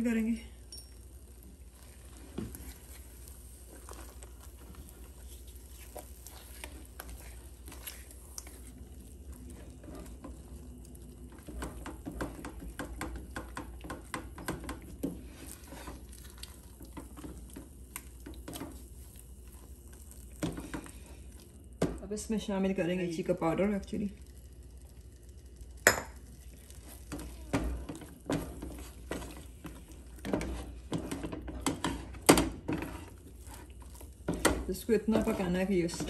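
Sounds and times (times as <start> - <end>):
spatula stirring sticky mixture: 0.0 - 36.0.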